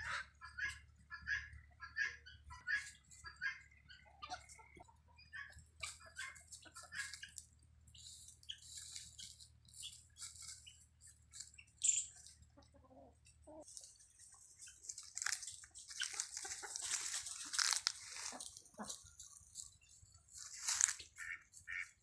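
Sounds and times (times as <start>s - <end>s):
chickens clucking: 0.0s - 22.0s
chickens pecking and scratching: 0.0s - 22.0s.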